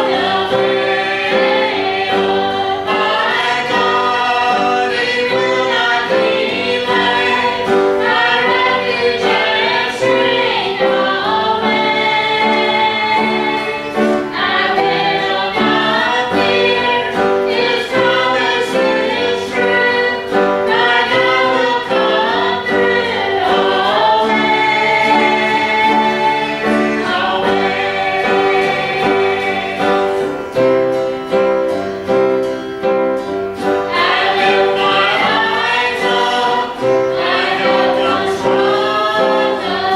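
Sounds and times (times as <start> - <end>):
group singing gospel song: 0.0 - 39.9
piano accompaniment: 0.0 - 39.9.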